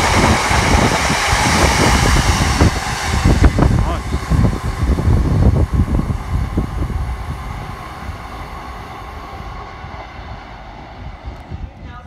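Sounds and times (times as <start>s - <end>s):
freight train rumbling and clattering: 0.0s - 12.0s.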